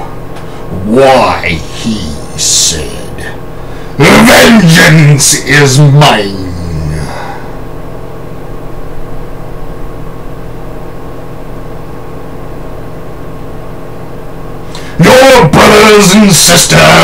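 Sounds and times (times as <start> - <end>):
droning hum with held tones: 0.0 - 17.0.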